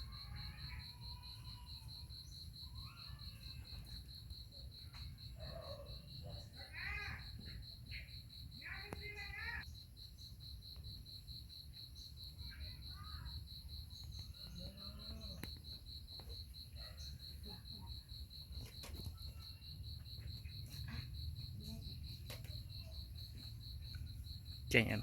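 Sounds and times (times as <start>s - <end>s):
cricket chirping: 0.0s - 25.0s.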